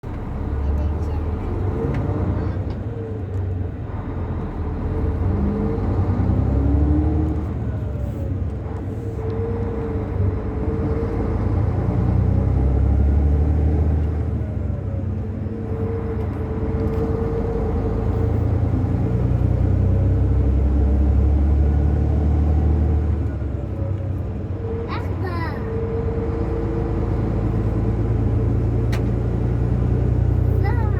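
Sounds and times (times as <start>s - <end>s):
diesel coach engine accelerating: 0.0s - 30.9s.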